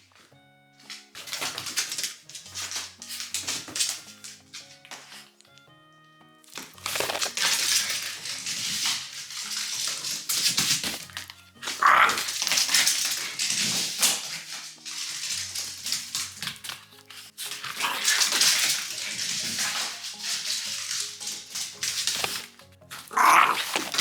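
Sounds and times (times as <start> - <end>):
rustling and scuffling: 0.0 - 5.7, 6.4 - 24.0
simple background music: 0.0 - 24.0.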